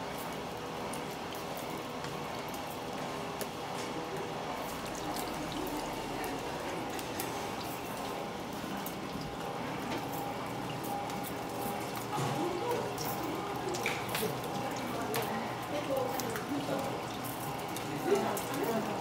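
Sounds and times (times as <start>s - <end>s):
faint machine hum: 0.0s - 19.0s.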